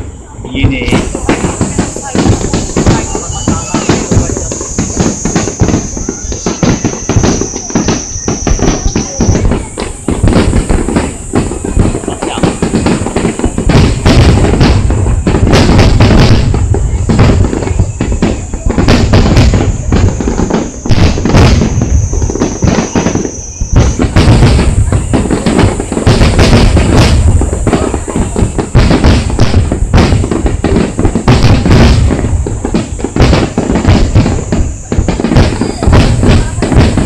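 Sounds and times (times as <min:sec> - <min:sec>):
fireworks booming and crackling: 0:00.0 - 0:37.0.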